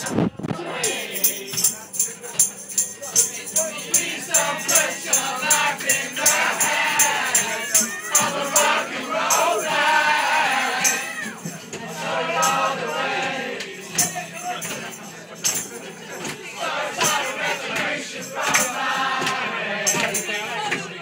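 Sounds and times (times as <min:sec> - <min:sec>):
group of people singing: 0:00.0 - 0:21.0
rattling hand percussion beat: 0:00.6 - 0:20.9.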